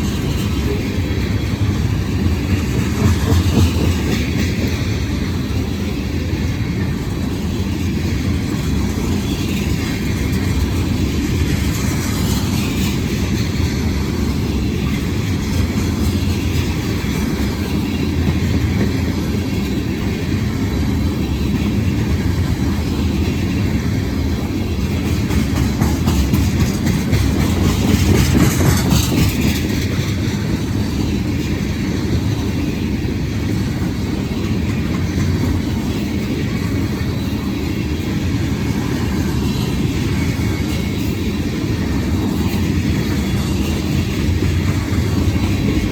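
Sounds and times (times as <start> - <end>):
train wheels rumbling on track: 0.0 - 45.9.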